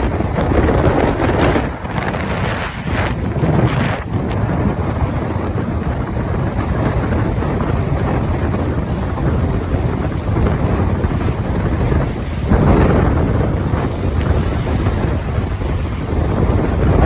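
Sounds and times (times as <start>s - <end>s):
wind gusting against microphone: 0.0s - 17.0s.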